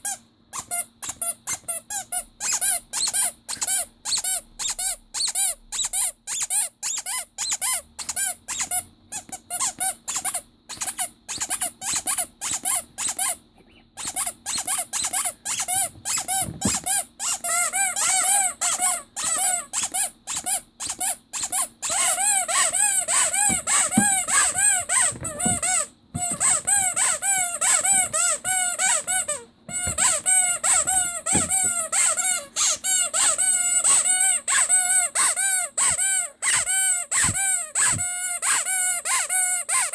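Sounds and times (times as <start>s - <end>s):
rubber squeaky toy squeaking: 0.0s - 13.4s, 14.0s - 39.9s.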